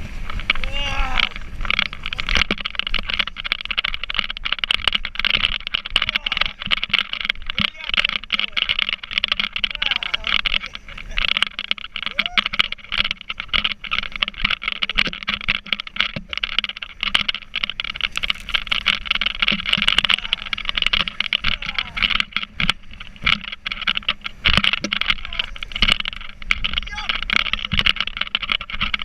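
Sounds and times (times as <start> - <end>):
rushing wind: 0.0 - 29.0.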